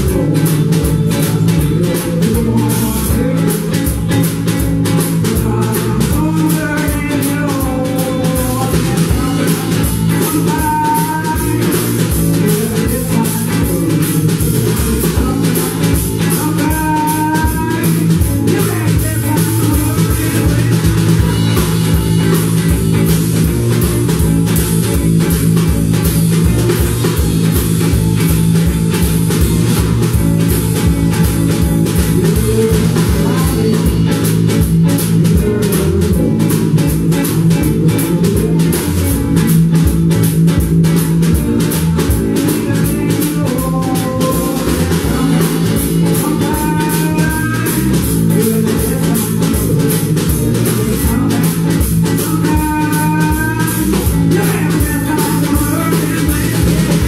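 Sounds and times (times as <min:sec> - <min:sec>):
bass: 0:00.0 - 0:57.0
drum kit beat: 0:00.0 - 0:57.0
guitars: 0:00.0 - 0:57.0.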